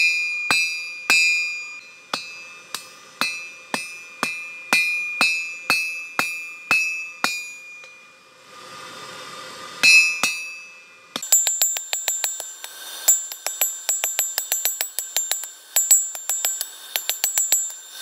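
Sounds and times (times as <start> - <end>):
hammer blows on anvil: 0.0 - 8.1, 9.8 - 18.0.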